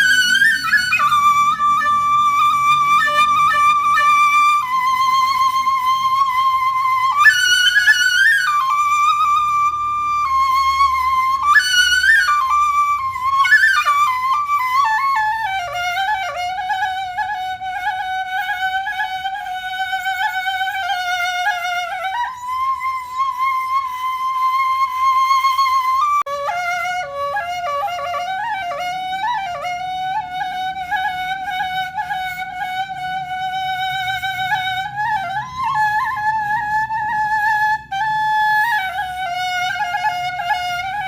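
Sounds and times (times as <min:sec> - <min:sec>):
solo flute melody: 0:00.0 - 0:41.0.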